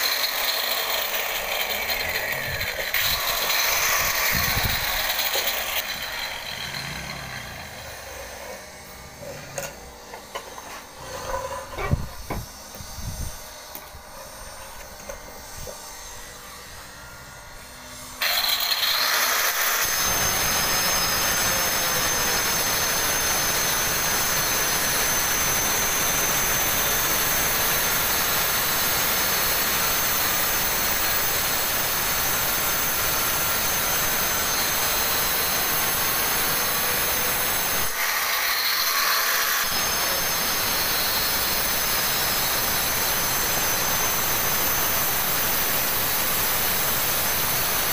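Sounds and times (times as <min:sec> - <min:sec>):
stone cutter grinding granite: 0:00.0 - 0:17.3, 0:18.0 - 0:47.9.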